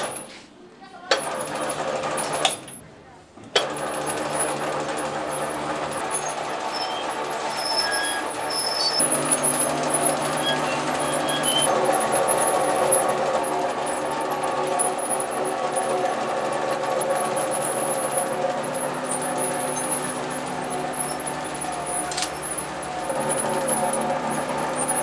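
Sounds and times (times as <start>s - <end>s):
machine conveyor hum: 3.4s - 25.0s.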